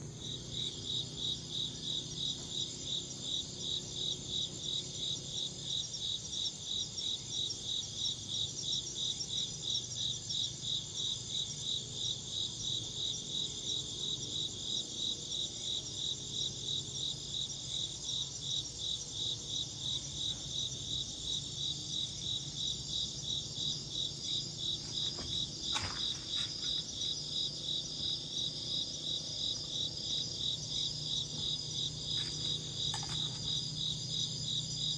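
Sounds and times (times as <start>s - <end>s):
high continuous insect trill: 0.0s - 34.9s
insects chirping in pulsing rhythm: 0.0s - 34.9s.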